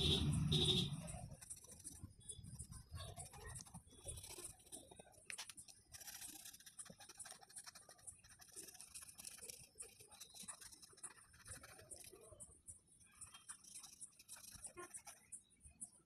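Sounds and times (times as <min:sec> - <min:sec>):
drawing tool scratching on paper: 0:01.0 - 0:12.4, 0:13.2 - 0:15.4.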